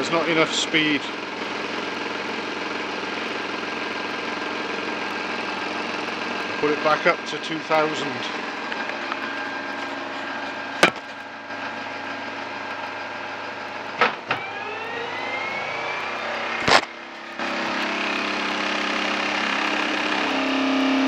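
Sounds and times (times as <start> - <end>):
lathe spindle whine: 0.0 - 21.0.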